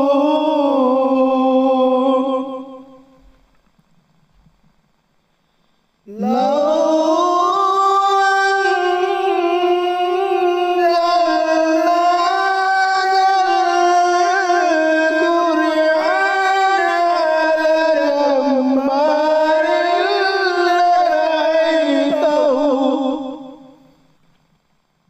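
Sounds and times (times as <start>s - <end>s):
solo voice singing: 0.0s - 3.2s, 6.1s - 24.0s.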